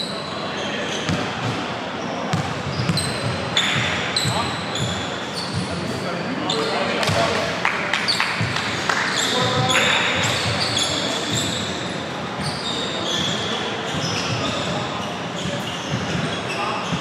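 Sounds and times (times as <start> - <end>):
sneakers squeaking: 0.0 - 17.0.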